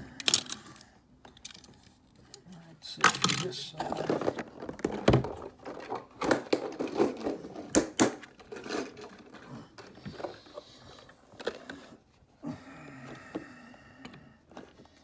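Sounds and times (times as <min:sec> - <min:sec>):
plastic case of toys clattering: 0:00.2 - 0:12.2, 0:14.4 - 0:15.0.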